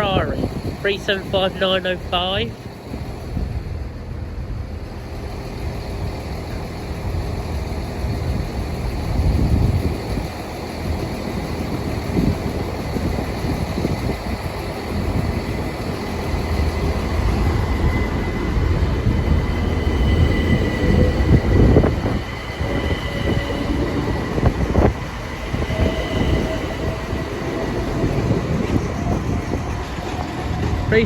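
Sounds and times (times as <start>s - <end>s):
train rumbling: 0.0s - 31.0s
traction motor whine: 2.6s - 31.0s.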